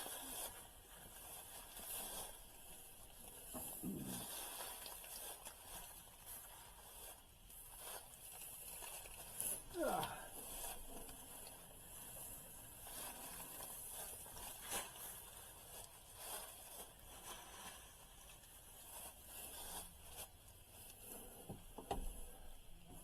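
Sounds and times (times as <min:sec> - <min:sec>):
faint rustling and scraping: 0:00.0 - 0:23.0.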